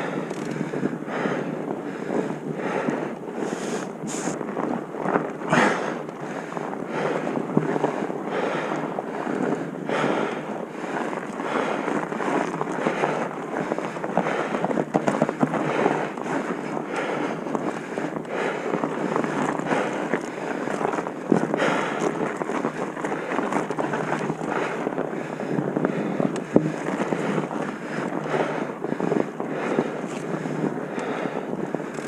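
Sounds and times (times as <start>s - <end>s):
wind noise on microphone: 0.0s - 32.0s.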